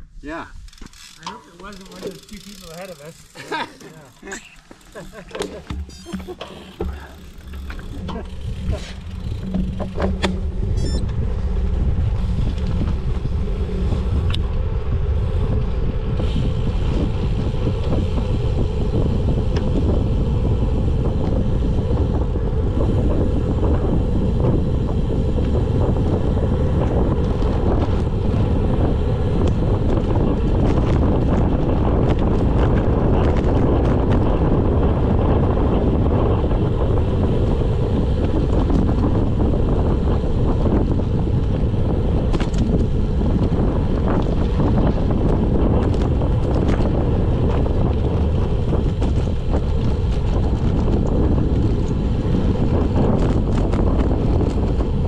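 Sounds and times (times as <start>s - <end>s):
wind rumble on microphone: 5.1s - 55.0s.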